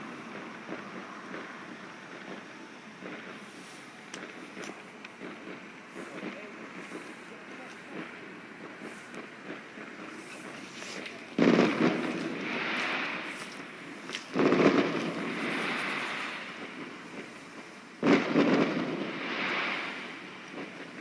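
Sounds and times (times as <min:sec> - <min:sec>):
firework bangs: 0:00.0 - 0:21.0
firework crackle: 0:00.0 - 0:21.0.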